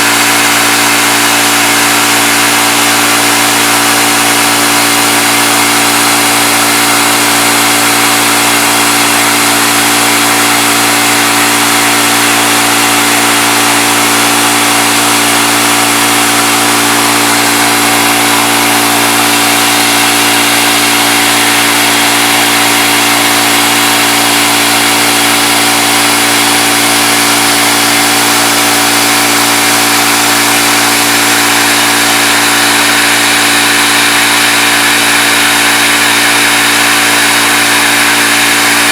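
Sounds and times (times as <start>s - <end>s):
milling machine motor hum: 0.0s - 38.9s.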